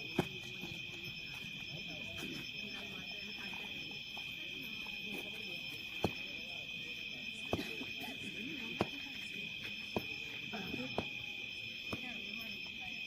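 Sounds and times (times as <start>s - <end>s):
crickets chirping: 0.0s - 13.0s
faint distant voices: 0.0s - 13.0s.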